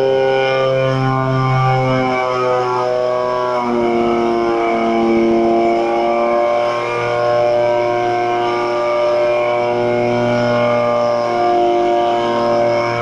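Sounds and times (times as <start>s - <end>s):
drone engine and rotors droning: 0.0s - 13.0s.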